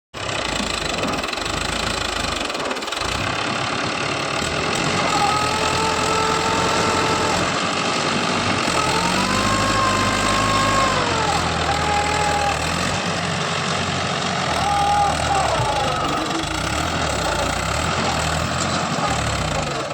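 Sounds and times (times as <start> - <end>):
tractor engine revving: 0.2 - 19.9.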